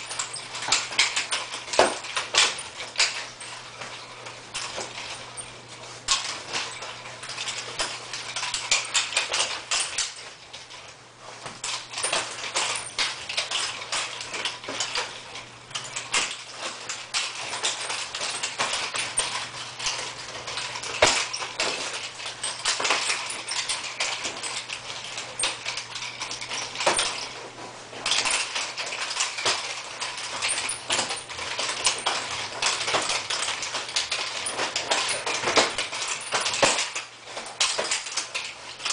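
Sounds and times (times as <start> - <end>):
metal chain rattling: 0.0 - 38.9.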